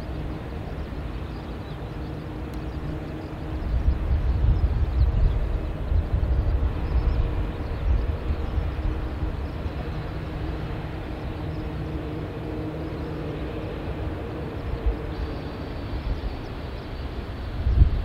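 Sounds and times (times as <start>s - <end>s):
jet engines humming faintly: 0.0s - 18.0s
wind buffeting microphone: 0.0s - 18.0s.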